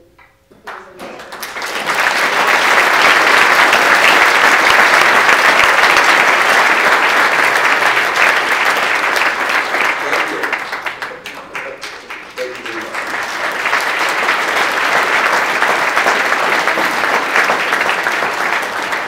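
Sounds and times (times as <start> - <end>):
audience applauding: 0.7 - 19.0.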